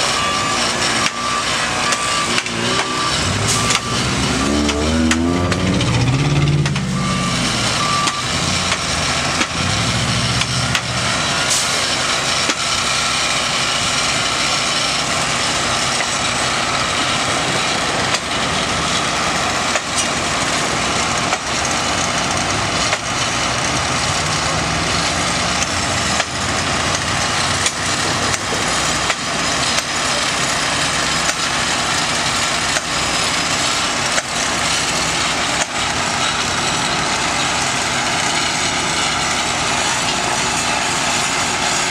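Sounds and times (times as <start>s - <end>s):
machinery engines running: 0.0s - 41.9s.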